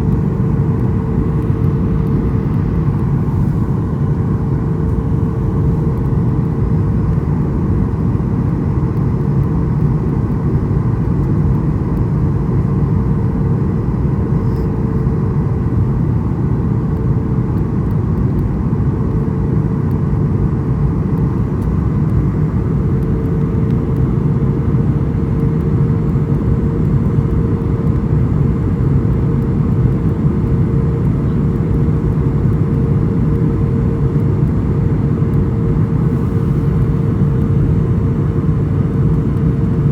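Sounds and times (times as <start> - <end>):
jet engines and airflow roar: 0.0 - 39.9.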